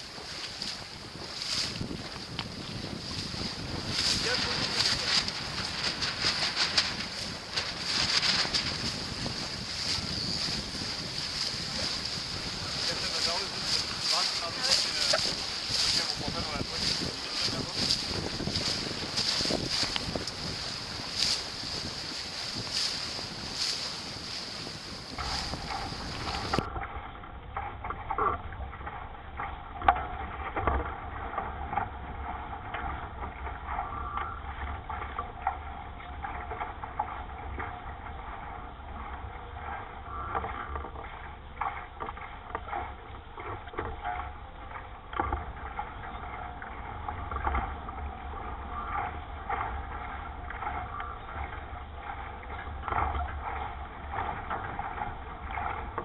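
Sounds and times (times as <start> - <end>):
water rushing along hull: 0.0 - 56.0.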